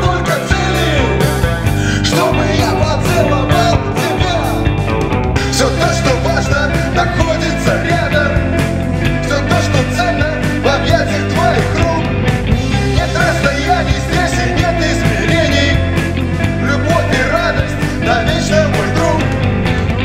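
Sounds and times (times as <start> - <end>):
indie rock band music: 0.0 - 20.0
steady drum beat: 0.0 - 20.0.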